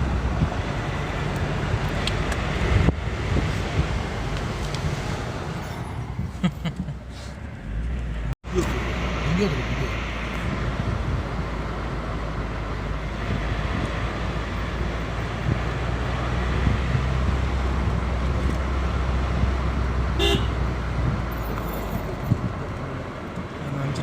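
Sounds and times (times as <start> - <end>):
wind noise: 0.0 - 6.8, 7.7 - 23.0
engine and tyre rumble: 0.0 - 24.0.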